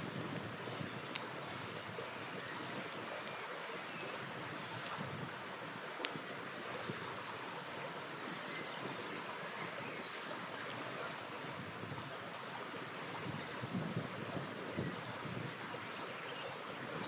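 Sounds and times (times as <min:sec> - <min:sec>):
river running: 0:00.0 - 0:17.0.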